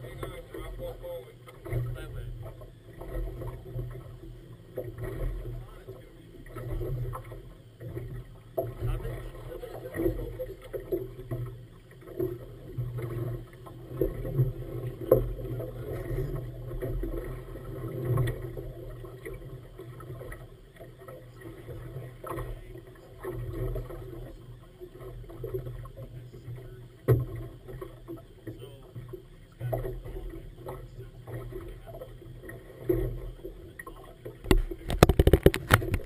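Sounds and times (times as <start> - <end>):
water slapping against boat hull: 0.0 - 36.0.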